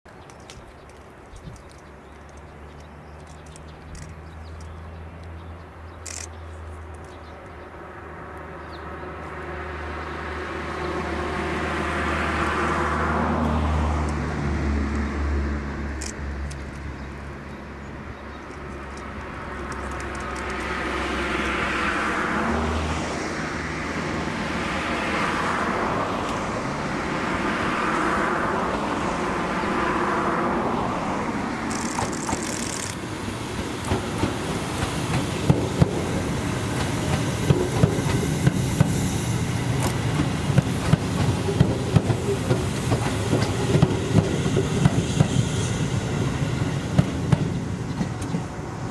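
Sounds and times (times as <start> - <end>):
electric train approaching: 3.4 - 48.9.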